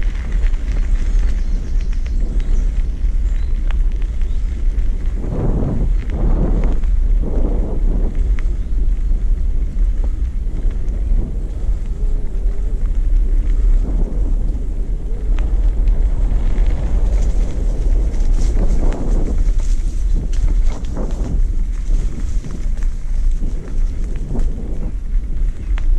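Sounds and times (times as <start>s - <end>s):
tyres rolling on dirt path: 0.0s - 25.9s
wind buffeting microphone: 0.0s - 25.9s.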